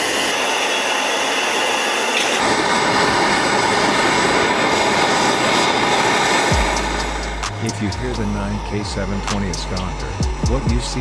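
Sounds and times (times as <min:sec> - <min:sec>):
rushing mechanical noise: 0:00.0 - 0:11.0.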